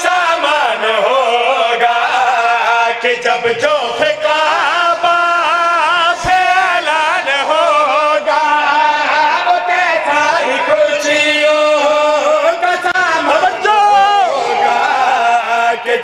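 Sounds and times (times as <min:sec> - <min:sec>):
men chanting through microphones: 0:00.0 - 0:16.0.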